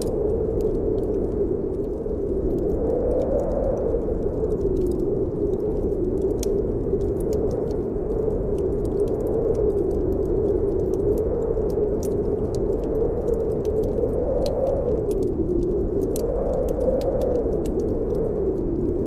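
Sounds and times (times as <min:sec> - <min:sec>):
howling wind: 0:00.0 - 0:19.0
wood fire crackling: 0:00.0 - 0:19.0.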